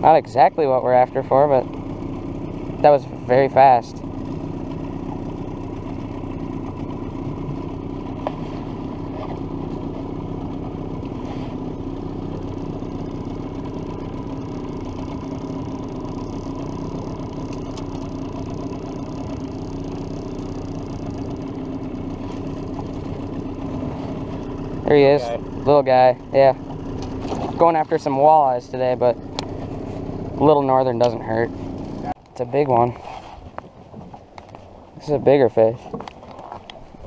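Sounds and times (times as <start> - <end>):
outboard motor droning: 0.0 - 37.0.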